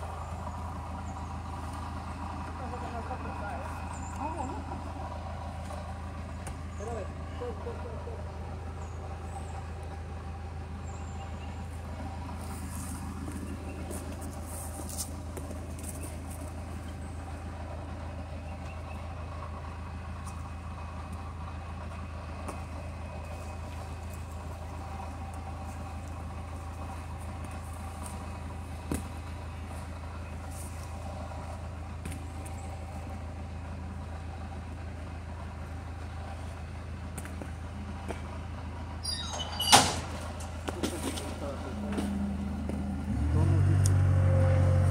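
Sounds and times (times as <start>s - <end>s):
loader engine running: 0.0s - 44.9s.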